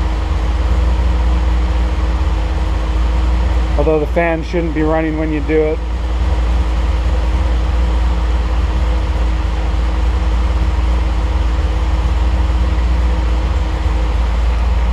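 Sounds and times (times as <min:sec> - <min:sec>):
car engine idling: 0:00.0 - 0:14.9
electric cooling fan running: 0:00.0 - 0:14.9.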